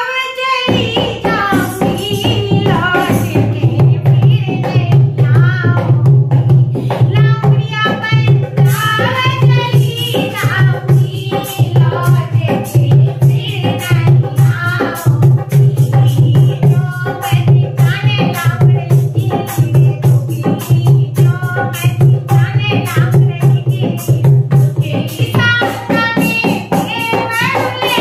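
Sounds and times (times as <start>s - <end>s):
woman singing folk song: 0.0s - 6.1s, 7.0s - 28.0s
hand drum beat: 0.6s - 28.0s.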